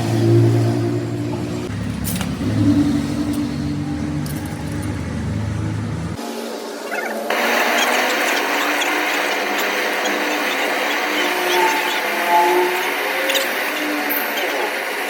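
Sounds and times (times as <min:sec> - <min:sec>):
vehicle engine running: 0:00.0 - 0:06.2, 0:07.3 - 0:15.0.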